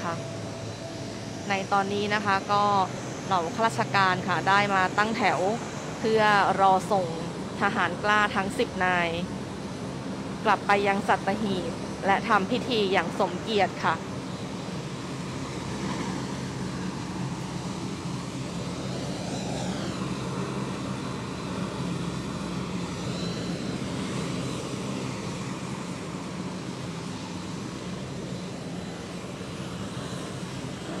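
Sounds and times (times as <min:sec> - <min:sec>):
turboprop engines running: 0:00.0 - 0:31.0.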